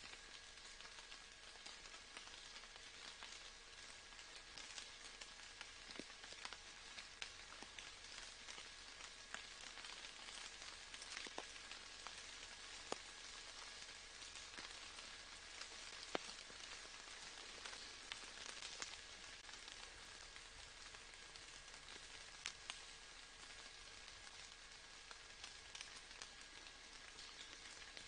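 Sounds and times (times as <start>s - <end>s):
faint steady rain: 0.0s - 28.0s
raindrops ticking: 0.0s - 28.0s.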